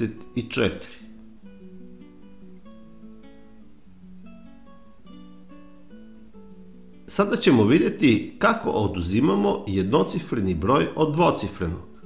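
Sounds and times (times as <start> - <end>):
quiet plucked background music: 0.0 - 12.0.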